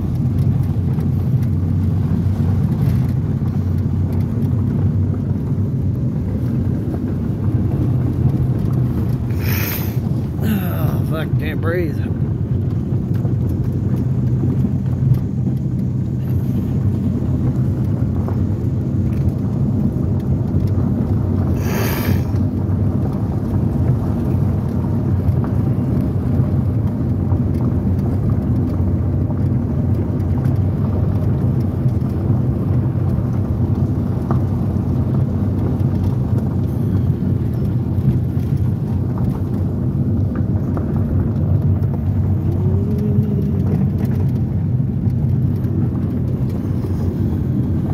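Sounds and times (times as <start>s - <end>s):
car engine: 0.0s - 47.9s
tyres rumbling on gravel: 0.0s - 47.9s.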